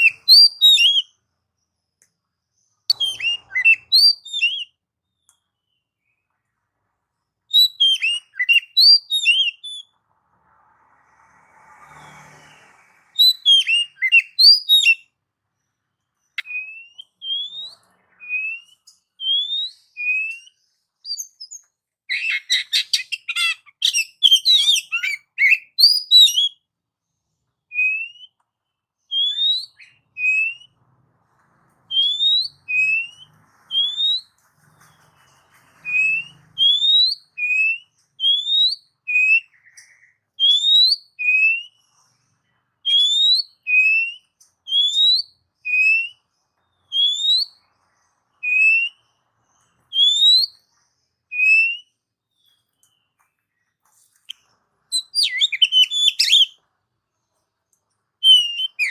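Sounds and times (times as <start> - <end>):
songbird whistling and singing: 0.0 - 1.2, 2.6 - 6.3, 7.5 - 10.0, 12.5 - 15.2, 16.2 - 26.7, 27.6 - 30.8, 31.9 - 56.6, 58.2 - 58.9.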